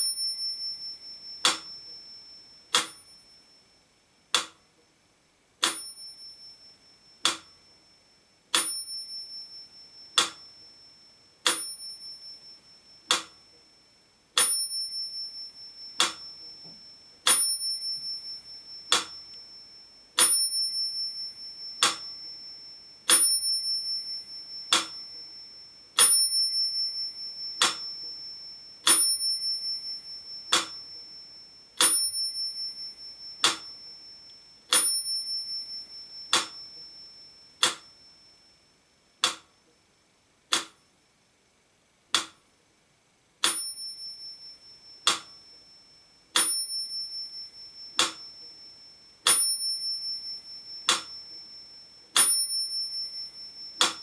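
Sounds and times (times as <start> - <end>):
metronome ticking: 0.0 - 3.4, 4.3 - 4.7, 5.6 - 7.8, 8.5 - 10.8, 11.4 - 13.7, 14.4 - 38.3, 39.2 - 39.7, 40.5 - 40.9, 42.1 - 42.4, 43.4 - 45.8, 46.4 - 54.0
metronome bell ringing: 0.0 - 3.8, 5.6 - 39.2, 43.4 - 54.0.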